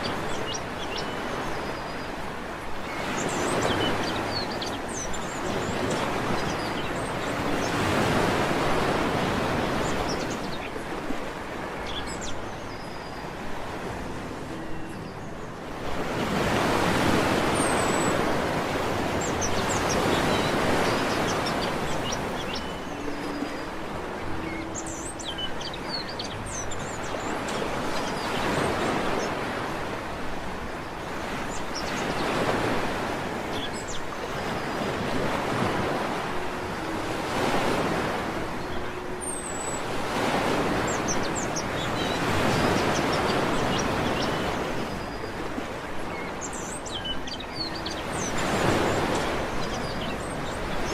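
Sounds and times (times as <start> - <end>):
waves breaking on beach: 0.0 - 50.9.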